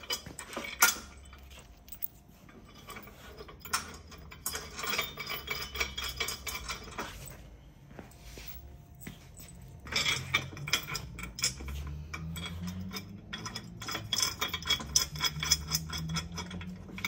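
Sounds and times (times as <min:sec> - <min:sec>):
metal nuts clinking: 0:00.0 - 0:07.4, 0:09.0 - 0:17.0.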